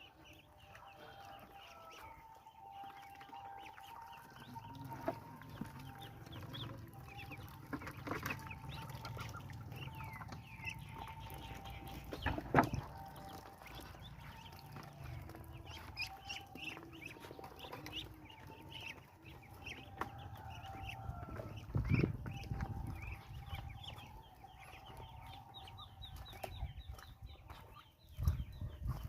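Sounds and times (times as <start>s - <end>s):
ducklings peeping: 0.0s - 29.0s.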